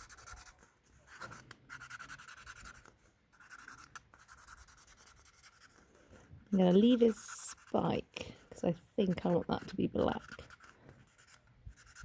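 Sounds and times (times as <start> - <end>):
pen scribbling on cardboard: 0.0 - 12.0.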